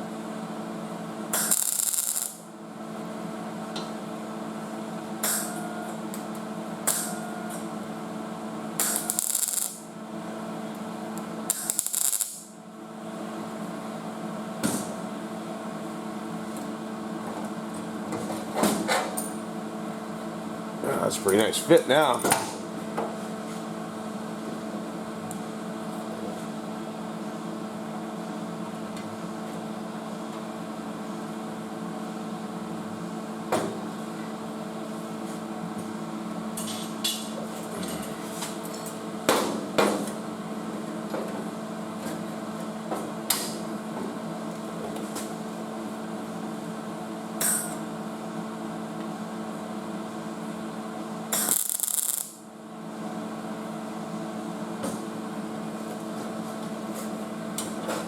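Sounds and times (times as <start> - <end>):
steady shop hum: 0.0 - 58.0.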